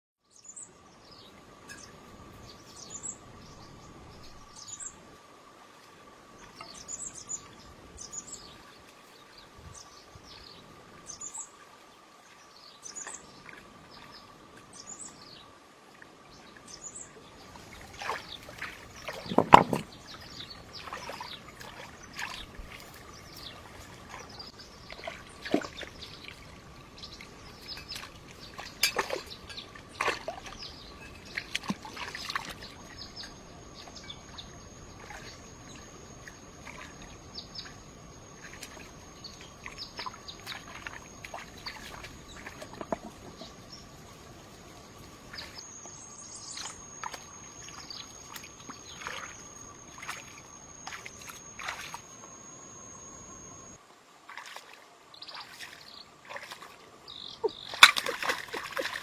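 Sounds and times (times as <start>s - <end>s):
birds chirping: 0.2s - 5.0s, 6.3s - 11.6s, 12.3s - 15.6s, 16.3s - 53.8s, 54.6s - 59.0s.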